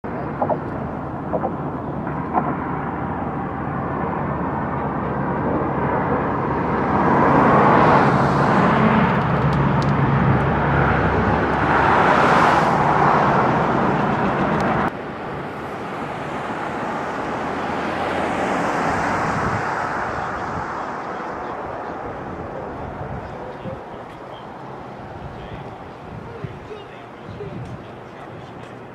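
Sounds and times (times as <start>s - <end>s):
road traffic rushing: 0.0s - 28.9s
vehicles passing: 0.0s - 28.9s.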